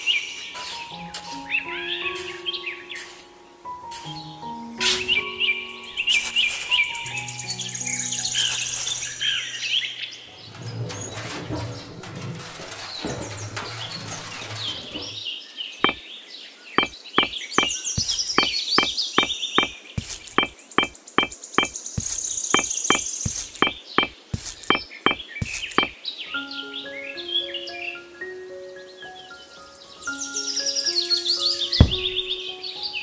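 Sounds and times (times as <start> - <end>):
birds chirping and trilling: 0.0 - 33.0.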